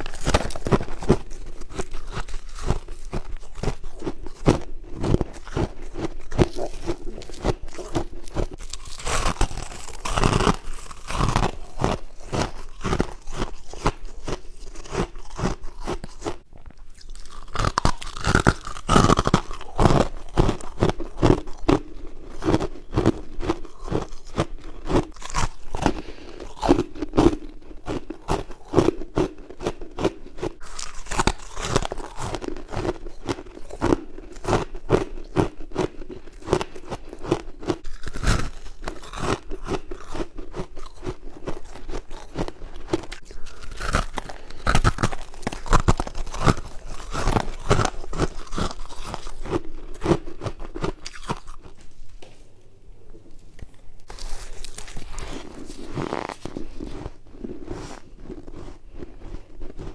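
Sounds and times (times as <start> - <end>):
person crunching frost: 0.0 - 52.3, 53.3 - 59.9.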